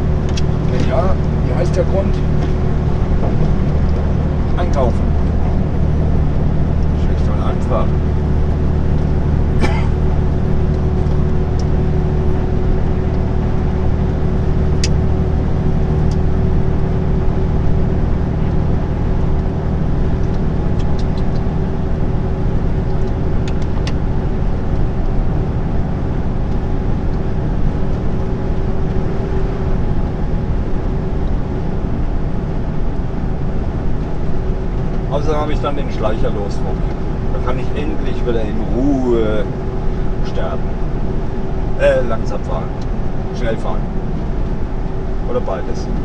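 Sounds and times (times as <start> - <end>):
truck engine drone: 0.0 - 46.0
tyre and road noise: 0.0 - 46.0.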